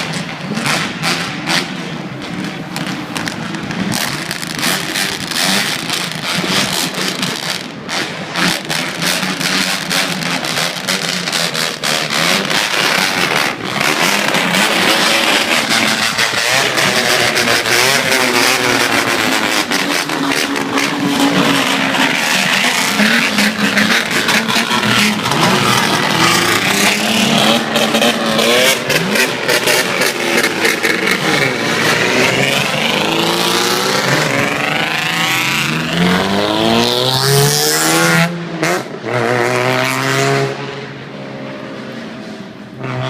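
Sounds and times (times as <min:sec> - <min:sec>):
engine revving: 0:00.3 - 0:40.8.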